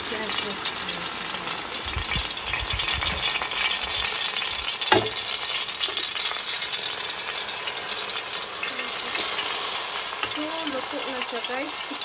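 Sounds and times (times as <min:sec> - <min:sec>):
steak sizzling on a grill: 0:00.0 - 0:12.0.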